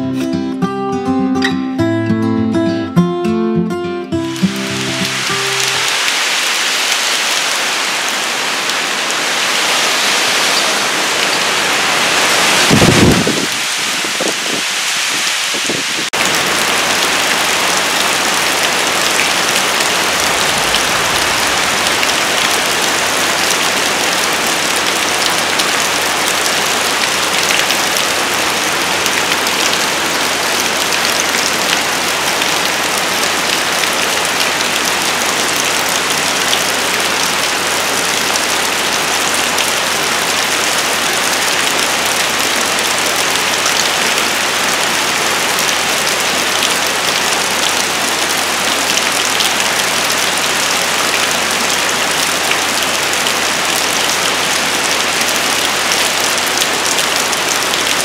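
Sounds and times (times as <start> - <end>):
heavy rain pouring: 4.1 - 58.0.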